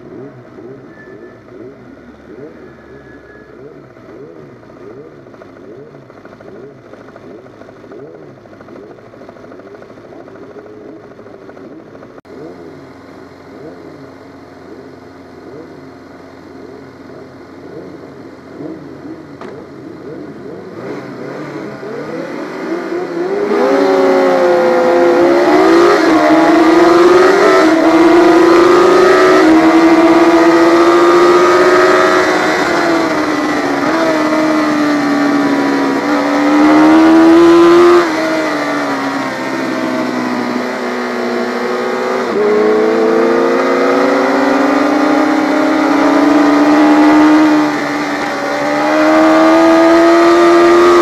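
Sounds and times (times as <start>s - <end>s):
motorcycle engines blipping: 0.0s - 51.0s
motorcycle revving through gears: 0.0s - 51.0s.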